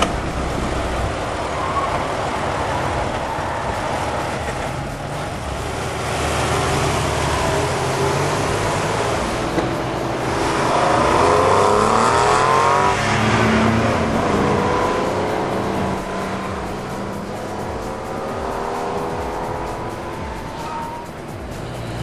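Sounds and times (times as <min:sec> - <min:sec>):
car engine accelerating hard: 0:00.0 - 0:22.0
gear shift: 0:00.0 - 0:22.0.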